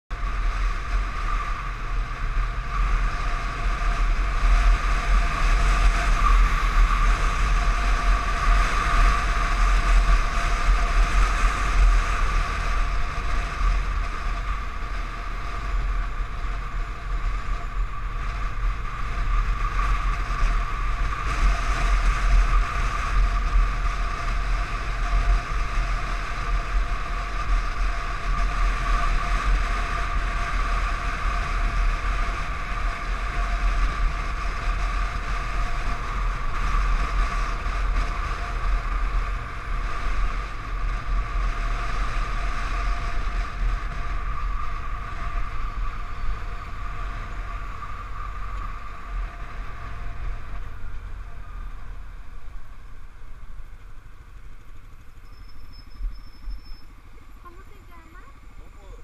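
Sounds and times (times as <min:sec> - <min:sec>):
road noise: 0:00.0 - 0:59.0
steady high whine: 0:00.1 - 0:59.0.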